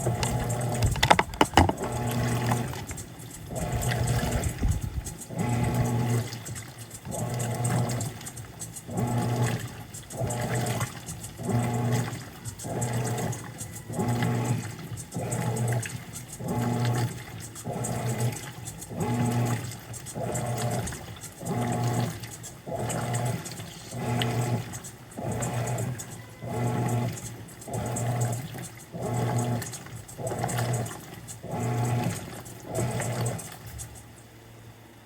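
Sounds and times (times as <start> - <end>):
water churning in tub: 0.0 - 33.6
washing machine motor strokes: 0.0 - 35.0.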